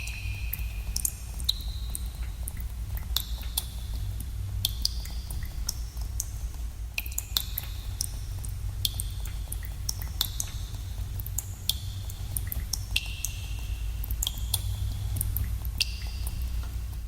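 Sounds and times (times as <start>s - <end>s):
steady low rumble: 0.0s - 17.0s
water dripping in cave: 0.0s - 17.0s.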